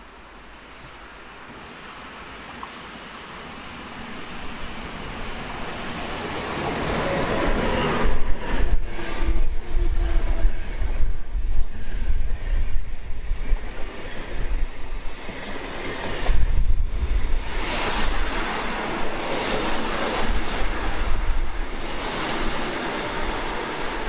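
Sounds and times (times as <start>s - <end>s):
passing train rumbling: 1.8s - 24.0s.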